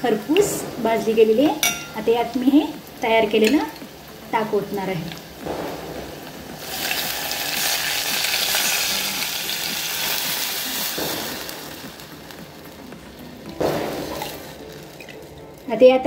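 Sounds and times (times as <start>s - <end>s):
oil sizzling in a pot: 0.0s - 15.8s.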